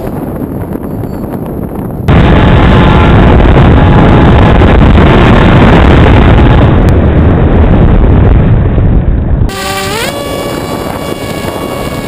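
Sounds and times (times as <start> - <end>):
muffled rushing roar: 0.0 - 12.0
wind buffeting microphone: 0.0 - 12.0.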